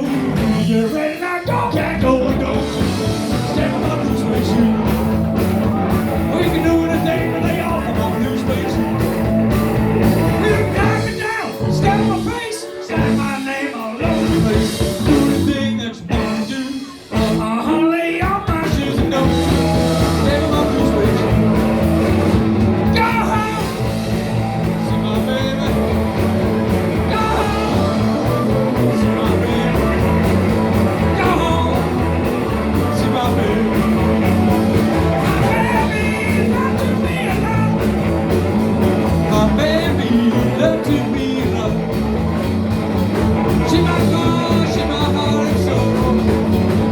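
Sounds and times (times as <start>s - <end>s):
person singing: 0.0s - 9.2s, 10.3s - 38.4s, 39.0s - 42.1s, 43.4s - 46.9s
live rock and roll band: 0.0s - 46.9s.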